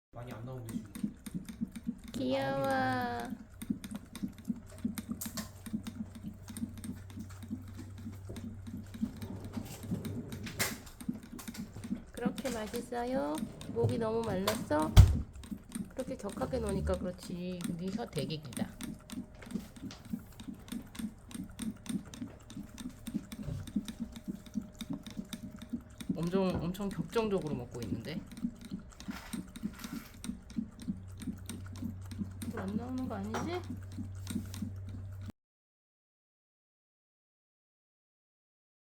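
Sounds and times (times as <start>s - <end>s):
puppy lapping water: 0.2s - 35.3s.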